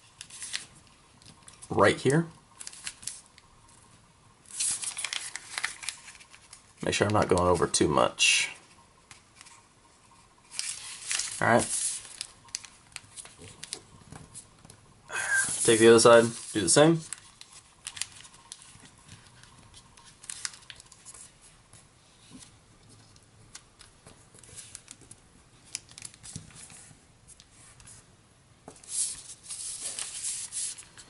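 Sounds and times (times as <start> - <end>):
paper rustling and crinkling: 0.1 - 2.0, 2.6 - 3.5, 4.4 - 7.8, 8.6 - 14.8, 15.4 - 28.1, 28.7 - 31.0.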